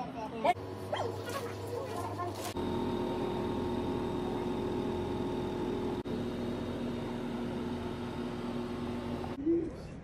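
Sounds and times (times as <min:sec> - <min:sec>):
steady machine hum: 0:00.5 - 0:09.4.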